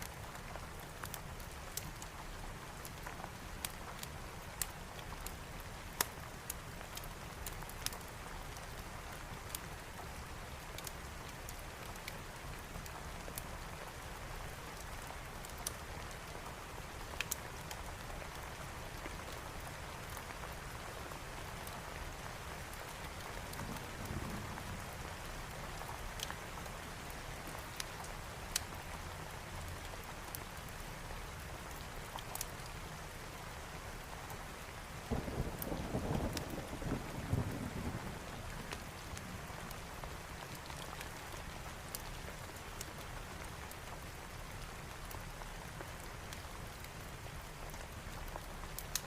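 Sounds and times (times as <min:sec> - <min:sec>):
fireplace fire crackling: 0:00.0 - 0:49.0
steady rain falling: 0:00.0 - 0:49.0.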